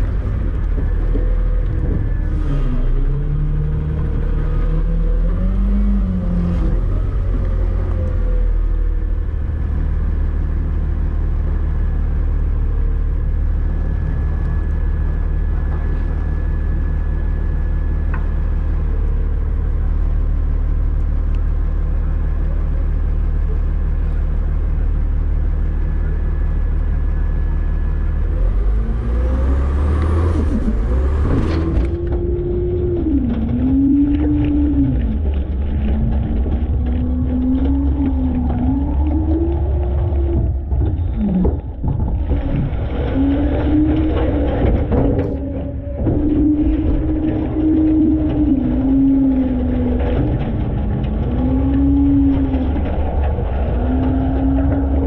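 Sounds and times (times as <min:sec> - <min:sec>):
diesel truck engine running: 0:00.0 - 0:55.0
hydraulic whine: 0:00.0 - 0:55.0.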